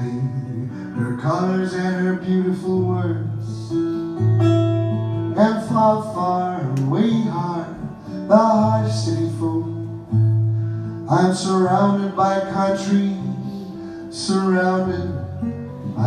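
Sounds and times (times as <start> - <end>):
man singing: 0.0 - 3.9, 5.3 - 10.1, 11.0 - 16.0
acoustic guitar: 0.0 - 16.0.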